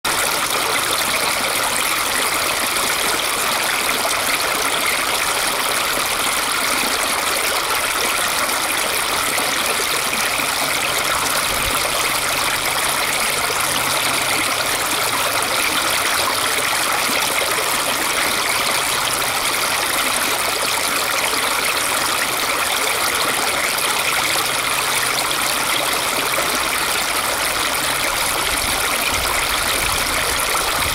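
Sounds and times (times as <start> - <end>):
brook babbling over rocks: 0.0 - 30.9.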